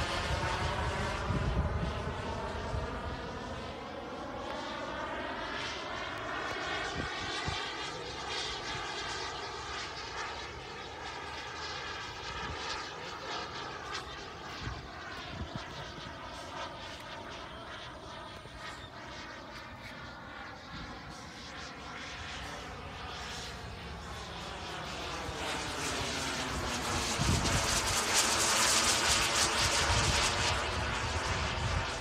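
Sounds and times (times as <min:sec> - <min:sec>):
model airplane motor whine: 0:00.0 - 0:32.0.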